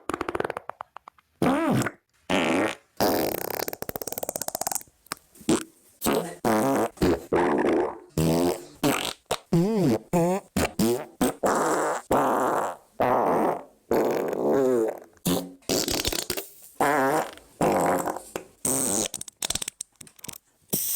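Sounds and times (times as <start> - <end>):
fart sounds: 0.0 - 4.9, 5.5 - 19.8.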